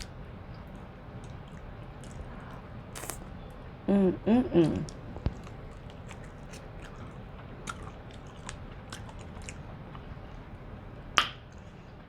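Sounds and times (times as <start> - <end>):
crunchy biting and chewing: 0.0 - 3.5, 4.6 - 10.8.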